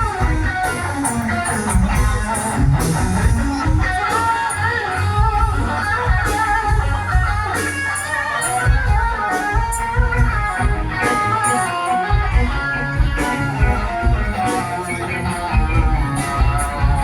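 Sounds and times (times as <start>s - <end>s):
bass: 0.0s - 17.0s
drums: 0.0s - 17.0s
guitar melody: 0.0s - 17.0s.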